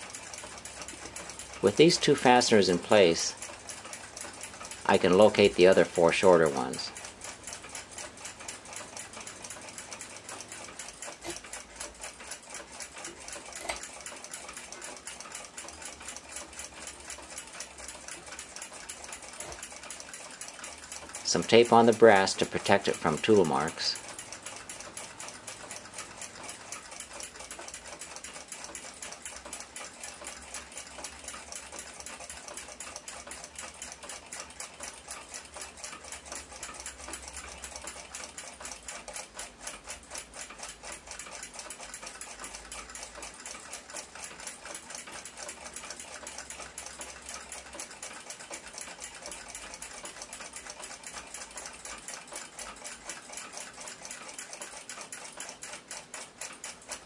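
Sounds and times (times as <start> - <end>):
mechanical clock ticking: 0.0 - 57.0.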